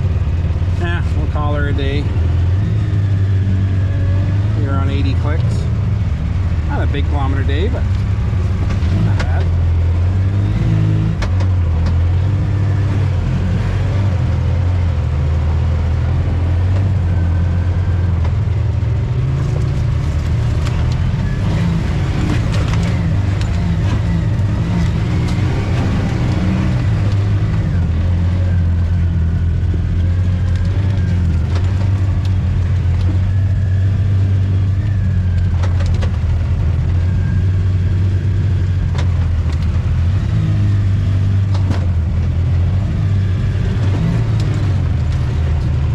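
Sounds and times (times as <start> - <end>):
off-road vehicle engine running: 0.0 - 45.9.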